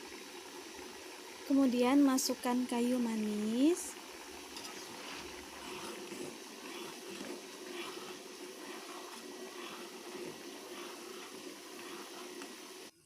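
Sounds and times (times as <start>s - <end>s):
porridge bubbling in a pot: 0.0s - 13.0s.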